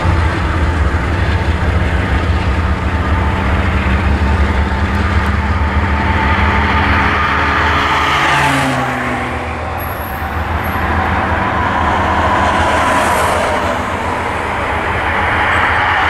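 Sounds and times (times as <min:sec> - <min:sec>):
train wheels running on rails: 0:00.0 - 0:16.0.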